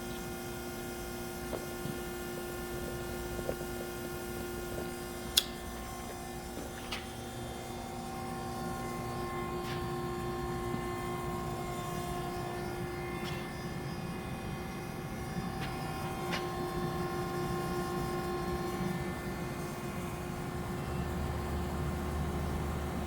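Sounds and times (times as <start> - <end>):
band saw machine hum: 1.8 - 23.0.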